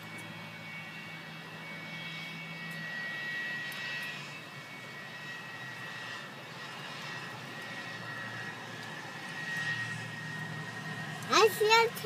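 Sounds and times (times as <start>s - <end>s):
jet airliner passing: 0.0s - 12.0s.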